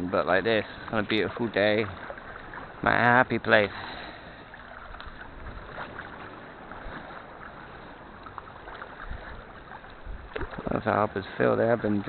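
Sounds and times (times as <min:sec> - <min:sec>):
water sloshing around kayak: 0:00.0 - 0:12.0.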